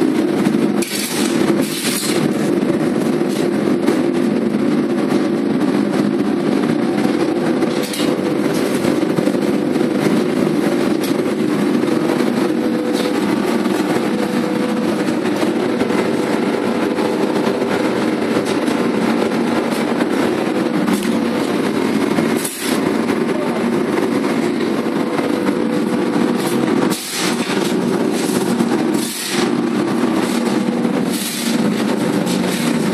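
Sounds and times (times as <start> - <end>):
electric arc furnace arcing: 0.0 - 32.9.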